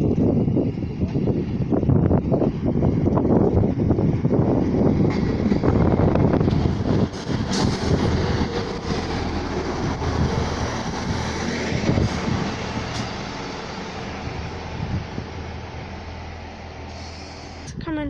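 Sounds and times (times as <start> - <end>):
diesel train engine hum: 0.0 - 18.0.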